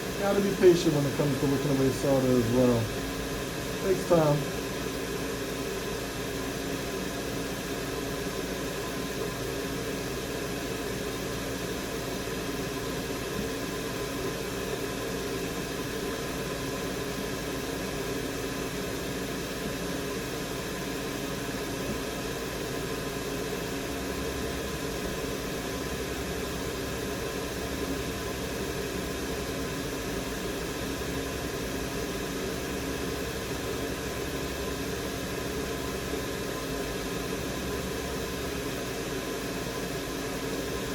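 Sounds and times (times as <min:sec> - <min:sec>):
fan whirring with low hum: 0:00.0 - 0:40.9.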